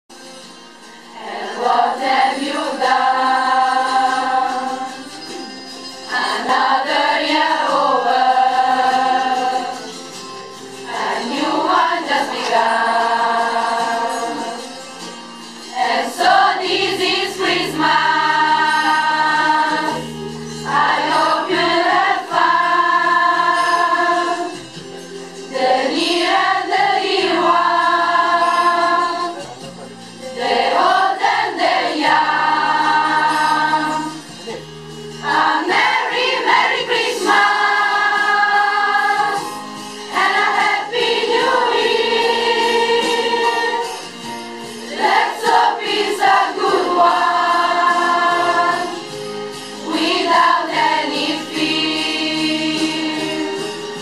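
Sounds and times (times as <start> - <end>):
choir of girls singing: 1.1 - 10.2, 10.8 - 14.8, 15.6 - 24.8, 25.5 - 29.5, 30.4 - 54.0.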